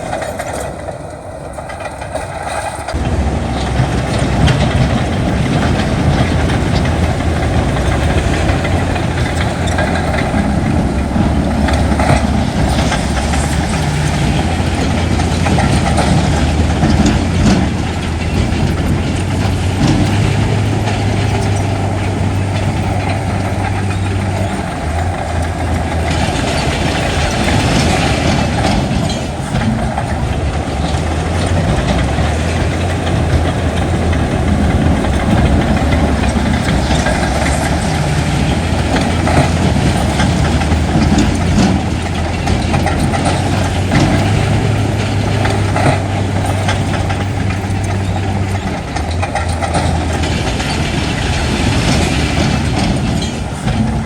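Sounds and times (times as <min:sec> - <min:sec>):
diesel engine drone: 0:00.0 - 0:54.0
machinery clanking and rattling: 0:00.0 - 0:54.0.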